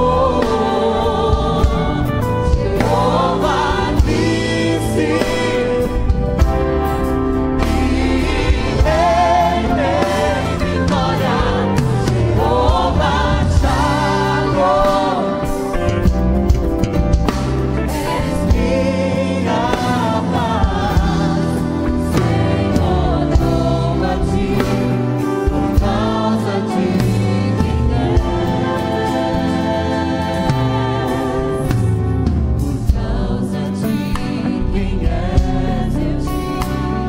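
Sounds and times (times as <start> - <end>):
voices singing: 0.0 - 6.7, 7.4 - 16.0, 17.8 - 37.0
drum kit and cymbals: 0.0 - 37.0
full band playing: 0.0 - 37.0.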